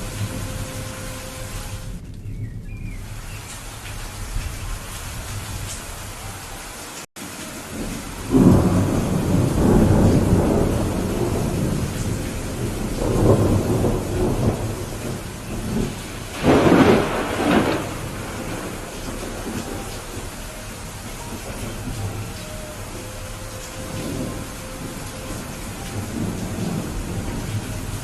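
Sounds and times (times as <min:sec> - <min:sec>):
rolling thunder: 0:00.0 - 0:06.6, 0:07.5 - 0:28.0
steady rain: 0:00.0 - 0:28.0.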